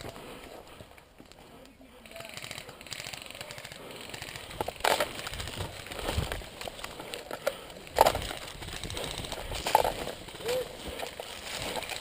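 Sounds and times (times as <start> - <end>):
small clicks: 1.0 - 12.0
rustling and handling noise: 2.3 - 12.0.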